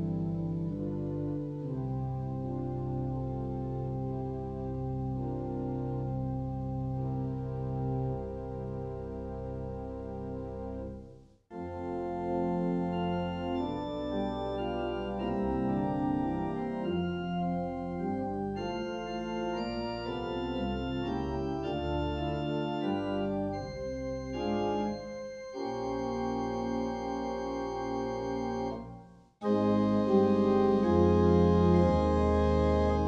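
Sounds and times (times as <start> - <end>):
church organ playing chords: 0.0 - 33.0.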